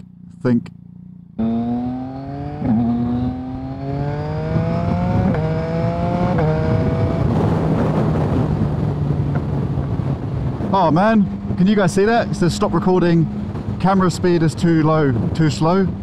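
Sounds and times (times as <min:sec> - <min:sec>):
motorcycle engine accelerating: 0:00.0 - 0:14.0
wind rushing over microphone: 0:01.4 - 0:16.0.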